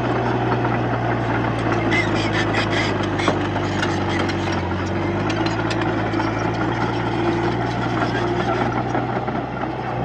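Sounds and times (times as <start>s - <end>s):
bulldozer diesel engine running: 0.0s - 10.0s.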